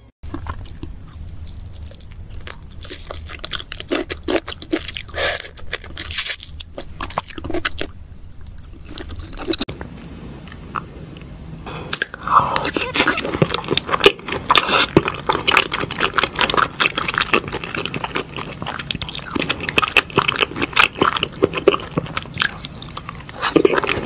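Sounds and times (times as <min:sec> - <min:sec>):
wet chewing and smacking: 0:00.2 - 0:09.8, 0:12.0 - 0:24.0.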